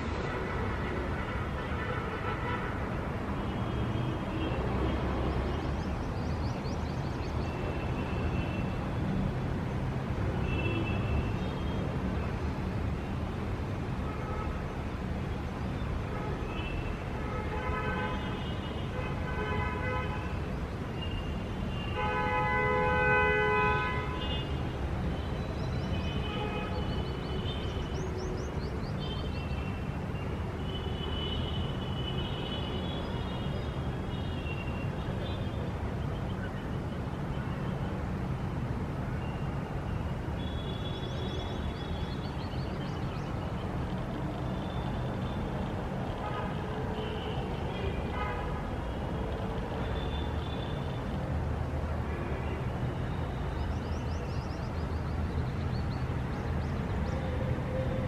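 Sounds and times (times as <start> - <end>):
rumble of passing vehicles: 0.0 - 58.0.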